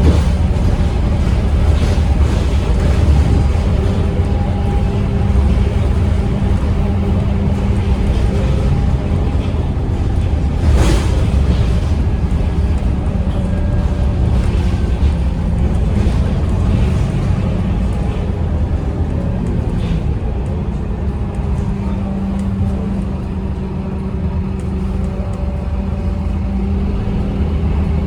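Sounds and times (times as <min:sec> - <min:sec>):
diesel bus engine rumbling: 0:00.0 - 0:28.0.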